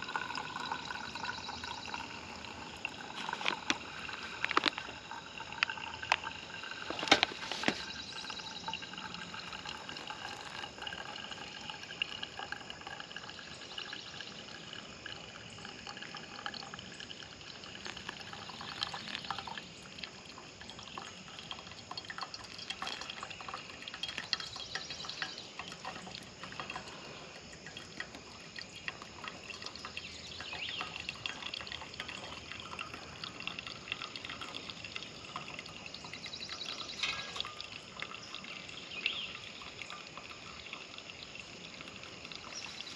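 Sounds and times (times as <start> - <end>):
water trickling into coffee dripper: 0.0 - 42.9.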